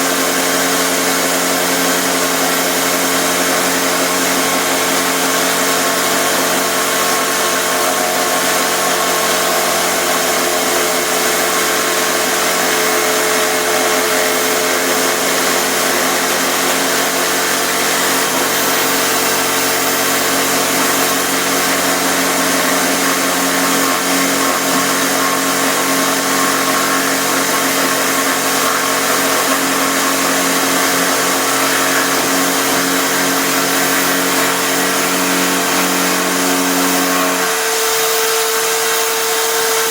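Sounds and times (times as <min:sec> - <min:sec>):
electric drill routing wood: 0:00.0 - 0:39.9.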